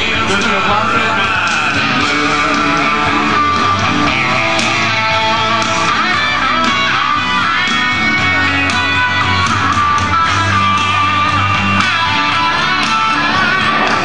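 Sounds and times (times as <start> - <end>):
rock music: 0.0 - 14.0
strummed electric guitar: 0.0 - 14.0.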